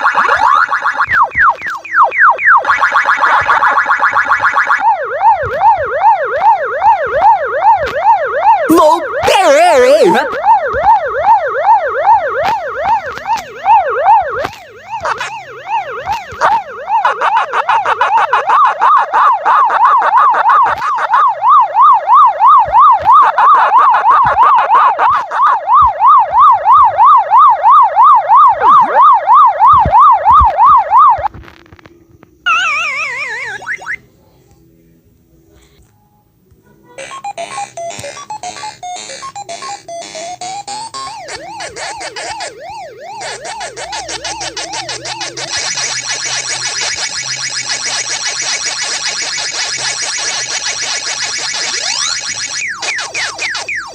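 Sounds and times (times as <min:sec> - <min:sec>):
electronic siren yelping: 0:00.0 - 0:31.3, 0:32.5 - 0:34.0, 0:37.0 - 0:53.9.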